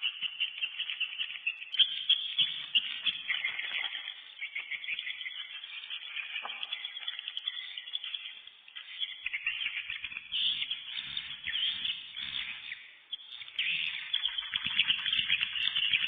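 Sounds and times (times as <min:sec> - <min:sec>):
flock of birds twittering: 0:00.0 - 0:16.0.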